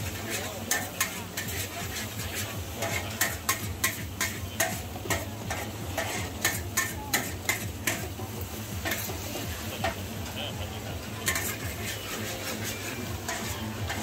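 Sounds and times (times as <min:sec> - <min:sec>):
metal spatula scraping a wok: 0:00.0 - 0:10.4, 0:11.0 - 0:14.0
frying sizzle: 0:00.0 - 0:14.0.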